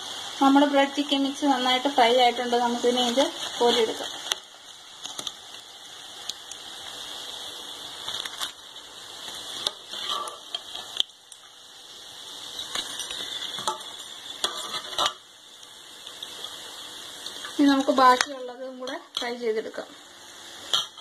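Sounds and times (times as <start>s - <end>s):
oil sizzling in frying pan: 0.0s - 21.0s.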